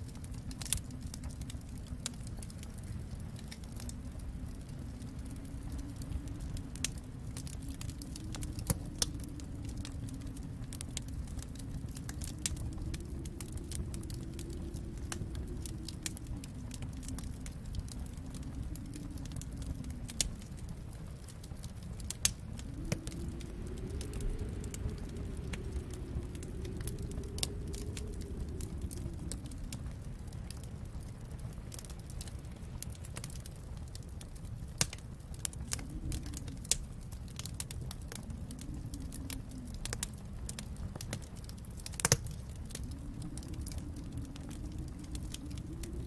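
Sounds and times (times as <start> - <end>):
low steady rumble: 0.0 - 46.0
wood fire crackling and popping: 0.0 - 46.0.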